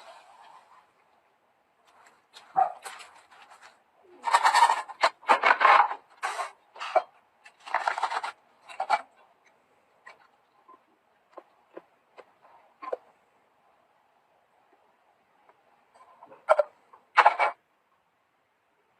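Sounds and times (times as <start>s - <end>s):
scraping and rubbing handling noise: 0.0s - 1.2s, 1.8s - 13.4s, 14.8s - 17.6s.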